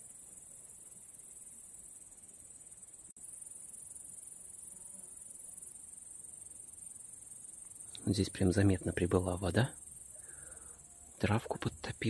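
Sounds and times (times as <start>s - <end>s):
grasshoppers chirring: 0.0s - 12.0s.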